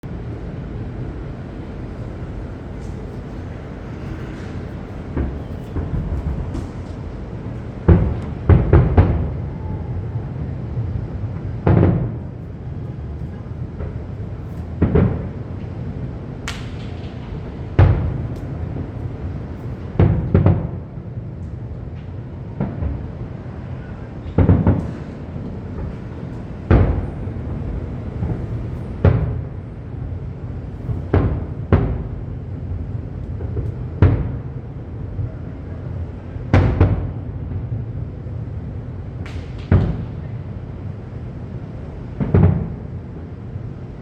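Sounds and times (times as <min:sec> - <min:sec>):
continuous low rumble: 0:00.0 - 0:44.0
fireworks booming: 0:00.0 - 0:44.0.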